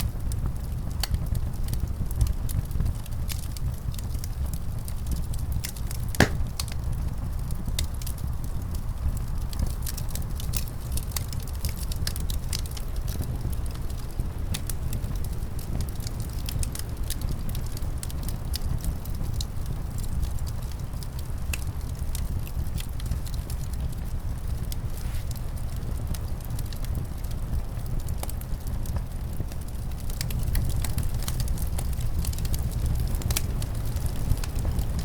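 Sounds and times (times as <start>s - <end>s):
low rumble of wind: 0.0s - 35.0s
wood fire crackling: 0.0s - 35.0s.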